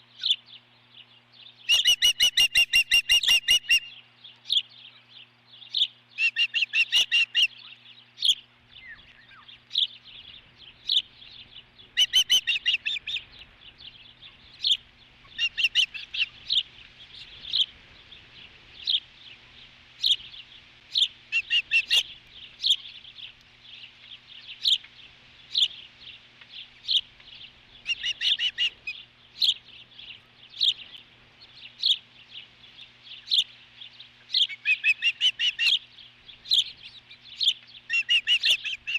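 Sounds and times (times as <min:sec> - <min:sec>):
ospreys chirping: 0:05.7 - 0:38.9.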